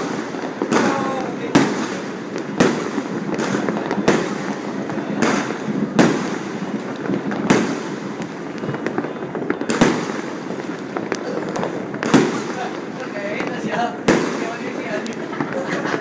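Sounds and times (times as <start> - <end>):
crackle of small pops: 0.0 - 16.0
fireworks banging: 0.0 - 16.0.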